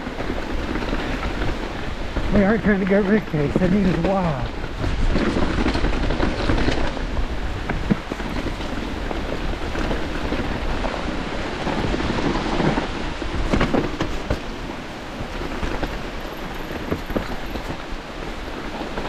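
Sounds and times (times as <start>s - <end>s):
bike rattling clicks and knocks: 0.0s - 19.0s
wind rumble on microphone: 0.0s - 19.0s.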